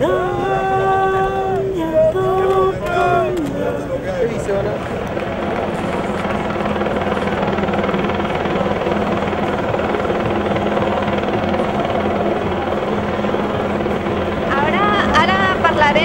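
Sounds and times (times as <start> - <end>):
helicopter drone: 0.0 - 16.0.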